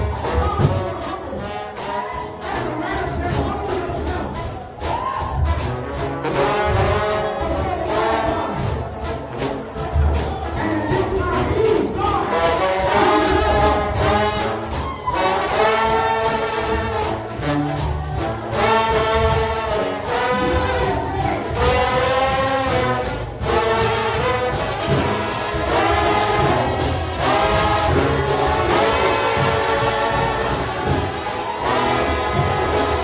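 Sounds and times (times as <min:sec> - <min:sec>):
steady percussion: 0:00.0 - 0:33.0
trombone band playing gospel: 0:00.0 - 0:33.0.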